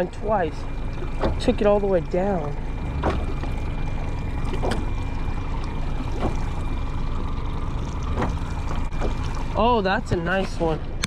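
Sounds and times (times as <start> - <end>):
soft splashes: 0.0 - 10.7
water lapping against boat hull: 0.0 - 11.0.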